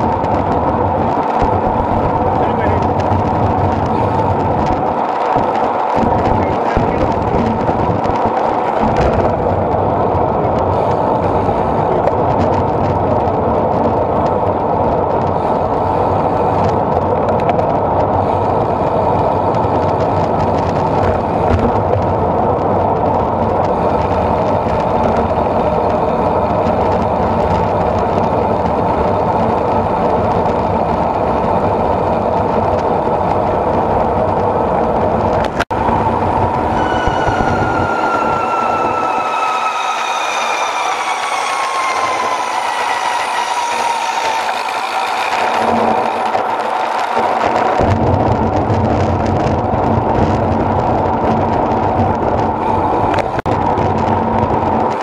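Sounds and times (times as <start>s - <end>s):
bicycle road noise: 0.0s - 55.0s
wind rushing over microphone: 0.0s - 55.0s.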